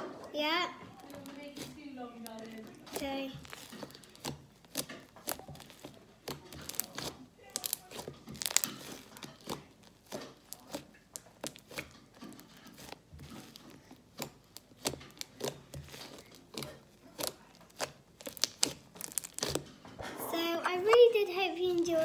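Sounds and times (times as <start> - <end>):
slime squished by hand: 0.7 - 19.7.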